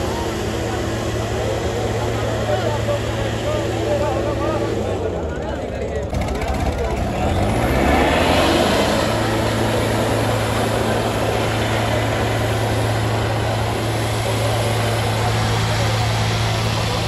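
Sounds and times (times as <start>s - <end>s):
diesel tractor engines droning: 0.0s - 17.0s.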